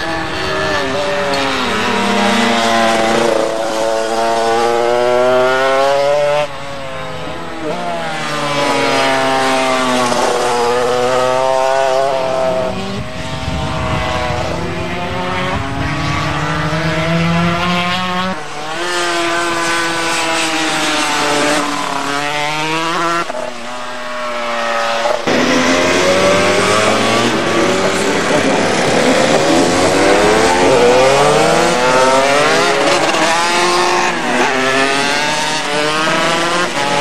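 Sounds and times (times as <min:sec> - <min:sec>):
racing motorcycles revving: 0:00.0 - 0:37.0.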